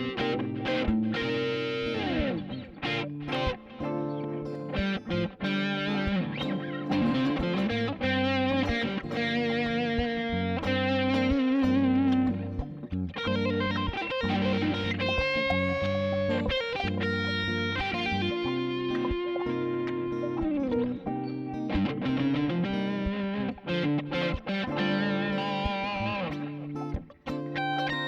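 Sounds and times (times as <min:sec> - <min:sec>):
electric guitar melody: 0:00.0 - 0:28.0.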